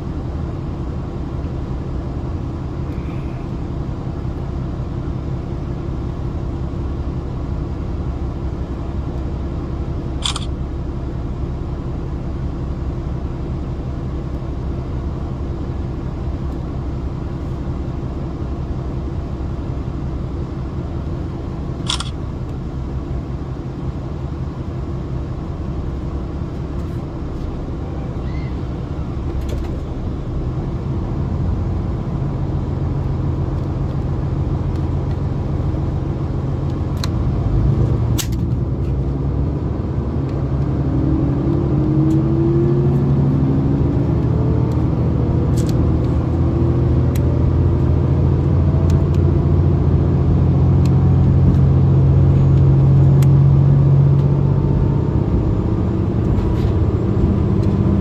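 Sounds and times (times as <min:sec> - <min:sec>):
diesel railcar engines revving: 0:00.0 - 0:58.0.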